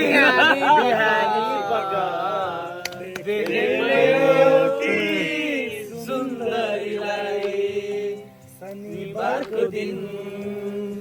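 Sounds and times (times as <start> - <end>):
people singing long notes: 0.0 - 11.0.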